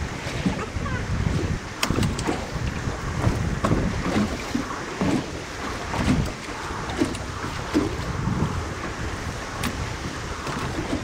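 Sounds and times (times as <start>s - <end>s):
waves washing against boat hull: 0.0s - 11.0s
wind buffeting microphone: 0.0s - 11.0s.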